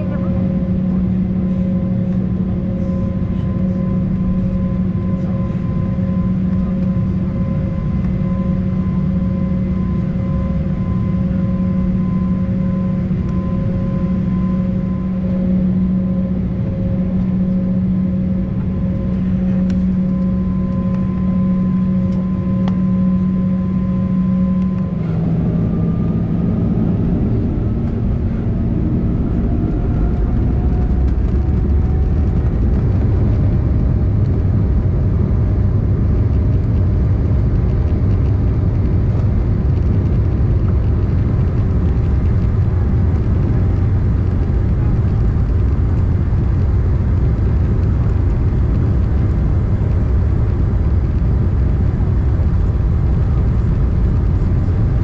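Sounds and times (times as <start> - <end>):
jet engines humming and whining: 0.0 - 55.0.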